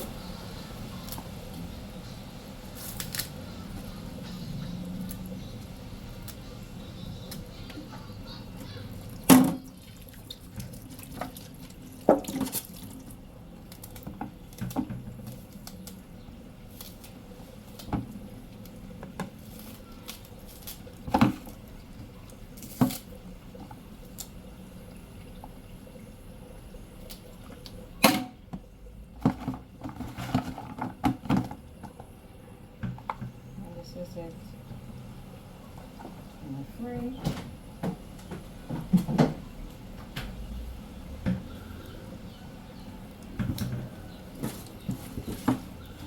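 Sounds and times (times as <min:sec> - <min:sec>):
water running and dripping: 0:00.0 - 0:46.0.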